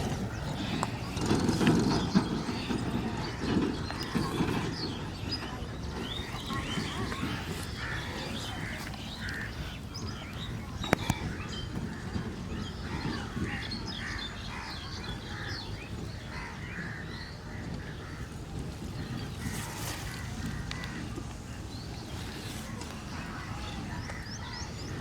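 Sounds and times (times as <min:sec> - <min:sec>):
birds calling: 0:00.0 - 0:25.0.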